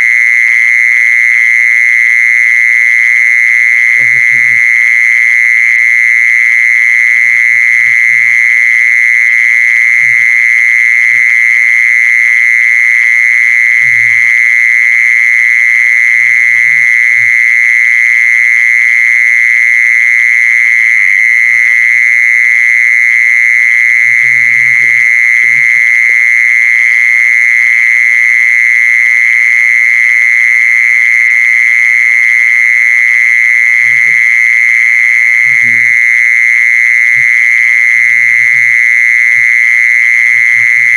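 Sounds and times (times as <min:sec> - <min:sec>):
insect high-pitched trill: 0:00.0 - 0:40.9.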